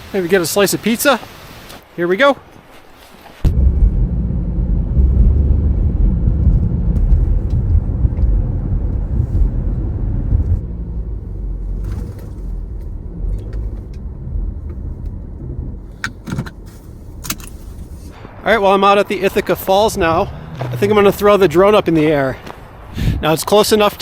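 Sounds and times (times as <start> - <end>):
car driving low rumble: 3.4 - 24.0.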